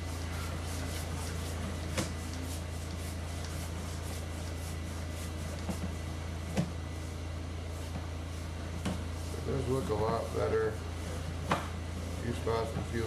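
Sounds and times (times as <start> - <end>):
steady low electrical hum: 0.0 - 13.0.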